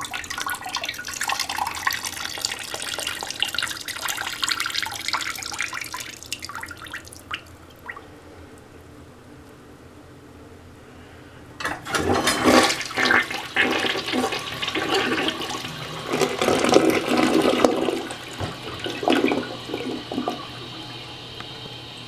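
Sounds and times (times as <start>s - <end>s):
toilet flushing: 0.0s - 8.0s, 11.6s - 22.0s.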